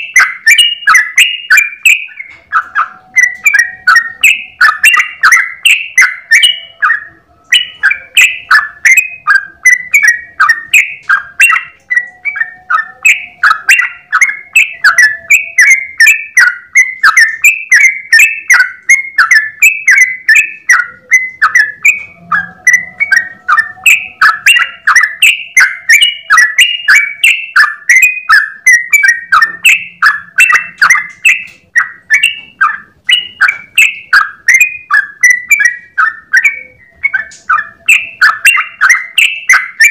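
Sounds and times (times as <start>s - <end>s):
bird singing bubbly chirps: 0.0s - 39.9s.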